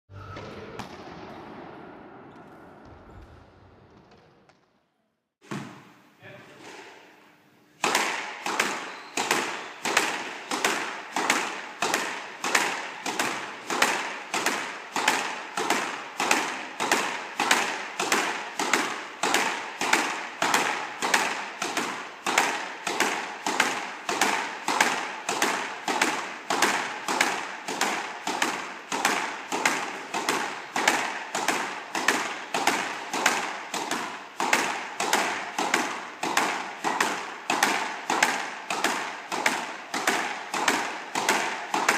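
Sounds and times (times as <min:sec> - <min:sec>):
ball hitting front wall: 0:05.4 - 0:05.9, 0:07.8 - 0:41.9
squash racket strikes: 0:05.4 - 0:07.1, 0:07.7 - 0:41.9.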